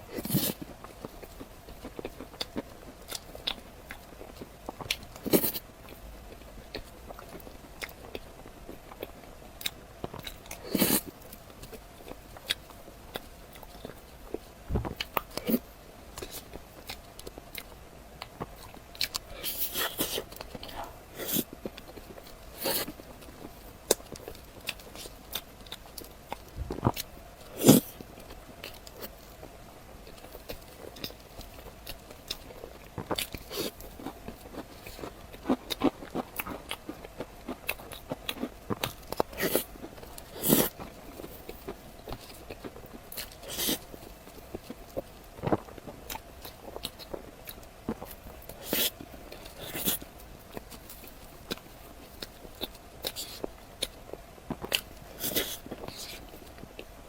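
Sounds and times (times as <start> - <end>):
chewing: 0.1 - 57.0.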